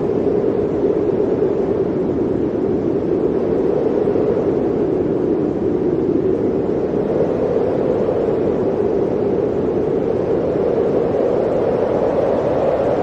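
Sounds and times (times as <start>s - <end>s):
blizzard wind blowing: 0.0s - 13.0s.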